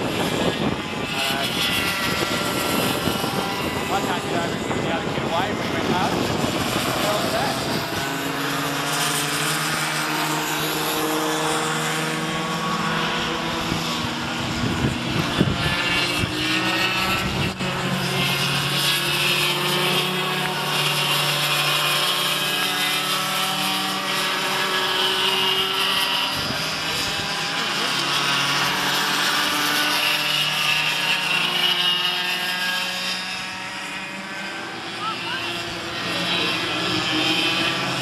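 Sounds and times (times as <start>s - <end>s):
go-kart engines racing past: 0.0s - 38.0s.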